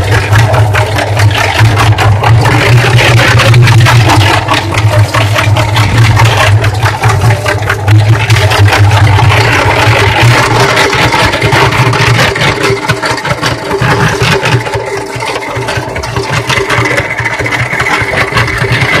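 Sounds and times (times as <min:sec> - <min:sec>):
cement mixer motor hum: 0:00.0 - 0:19.0
drum rattling: 0:00.0 - 0:19.0.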